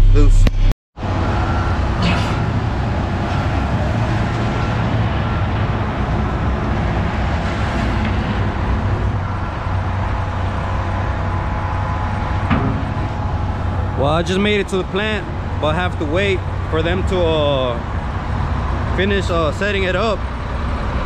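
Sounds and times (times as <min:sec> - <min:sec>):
heavy diesel engines rumbling: 0:01.0 - 0:21.0.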